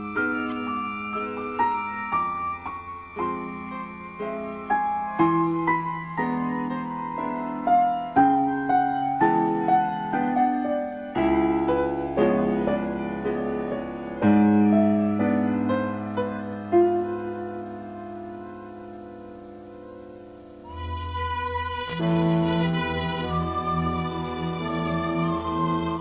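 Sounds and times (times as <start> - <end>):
piano-like keyboard melody: 0.0 - 26.0.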